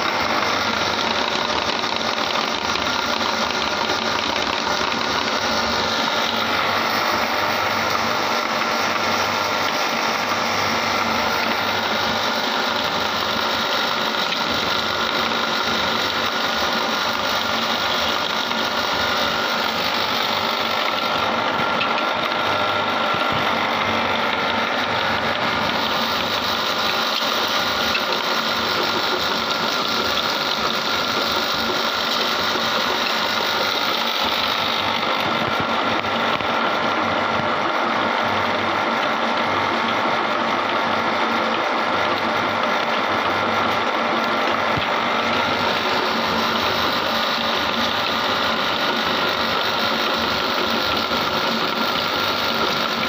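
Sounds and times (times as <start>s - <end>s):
electric meat grinder crushing lemons: 0.0s - 53.0s.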